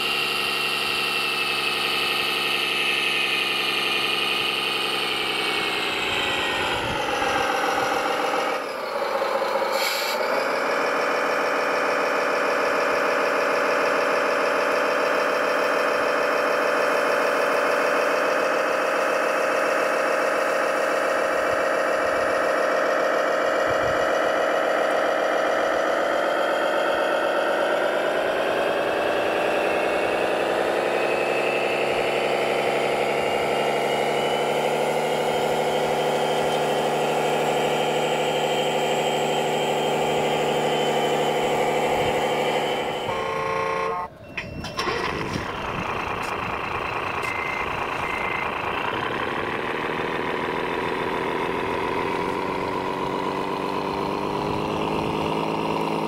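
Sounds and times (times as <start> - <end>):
machinery engine drone: 0.0 - 56.0.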